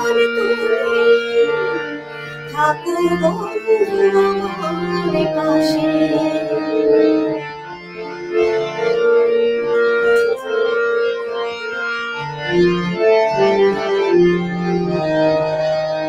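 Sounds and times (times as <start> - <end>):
organ-like keyboard melody: 0.0 - 16.0.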